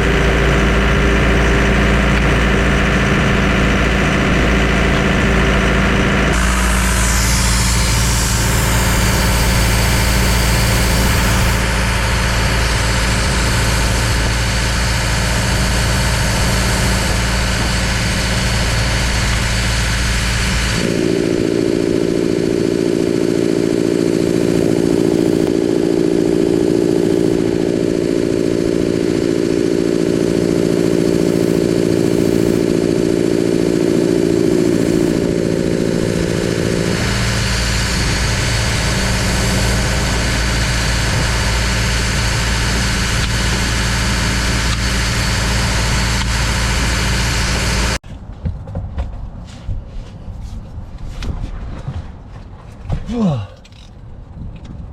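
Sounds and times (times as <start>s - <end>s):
engine running: 0.0s - 54.9s
mid-pitched hum: 0.0s - 54.9s.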